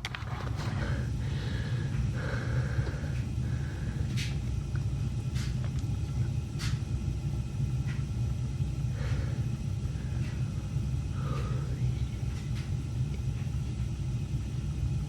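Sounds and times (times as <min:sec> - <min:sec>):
gas burner flame rumble: 0:00.0 - 0:15.0.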